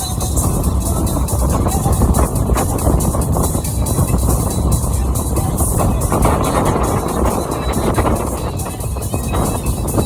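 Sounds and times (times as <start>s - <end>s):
music playing: 0.0s - 10.0s
wind buffeting microphone: 0.0s - 10.0s.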